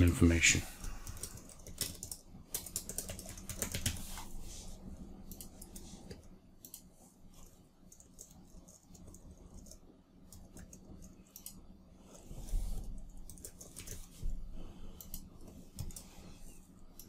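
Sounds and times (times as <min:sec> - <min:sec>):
computer keyboard typing: 0:00.0 - 0:04.4, 0:05.2 - 0:17.0.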